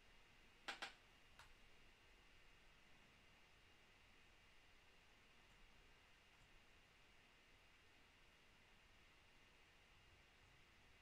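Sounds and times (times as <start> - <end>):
faint room hiss: 0.0 - 11.0.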